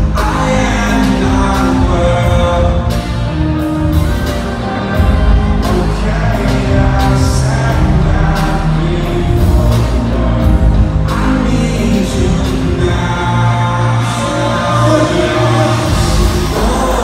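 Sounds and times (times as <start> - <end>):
live rock band playing: 0.0 - 17.0
sung vocals: 0.0 - 17.0.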